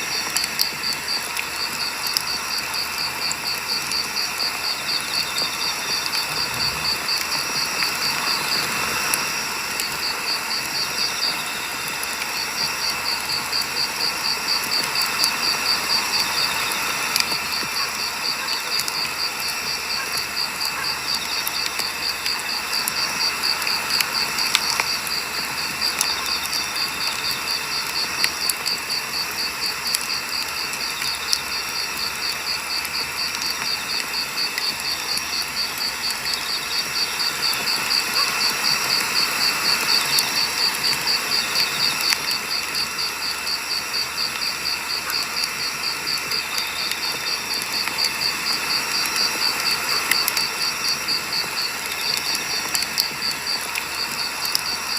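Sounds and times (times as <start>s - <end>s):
firewood crackling and popping: 0.0s - 54.9s
insects chirping: 0.0s - 54.9s.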